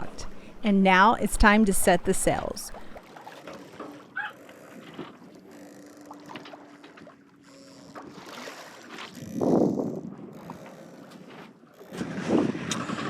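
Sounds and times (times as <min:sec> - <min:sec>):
water washing along boat hull: 0:02.4 - 0:13.0.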